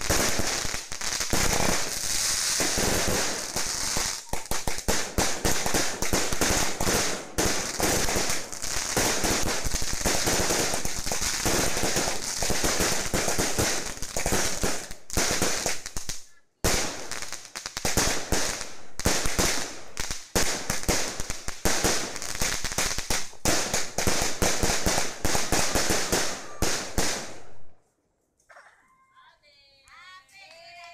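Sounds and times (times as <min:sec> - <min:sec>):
fireworks bangs and crackling: 0:00.0 - 0:27.6.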